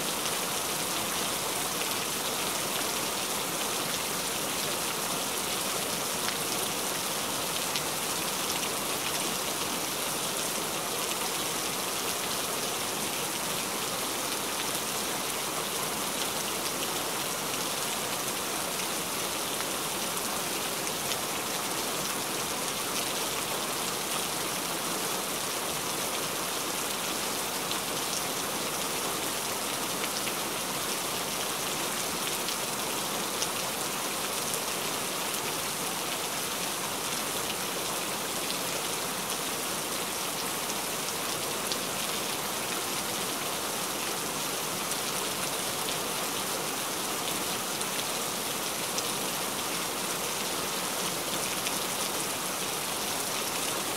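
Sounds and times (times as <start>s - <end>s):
steady rain hiss: 0.0s - 53.9s.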